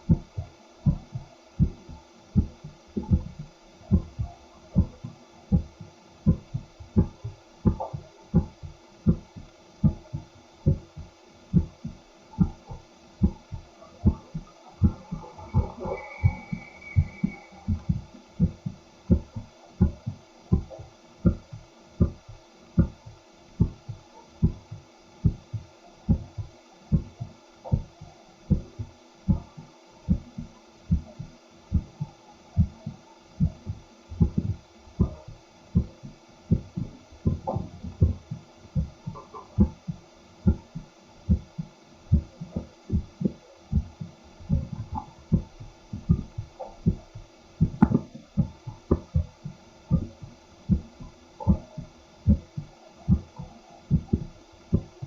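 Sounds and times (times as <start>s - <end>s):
heartbeat through stethoscope: 0.0s - 55.0s.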